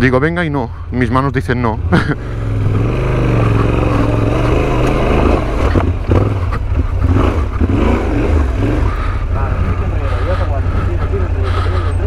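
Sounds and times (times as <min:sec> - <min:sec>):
motorcycle engine revving: 0:01.3 - 0:12.0.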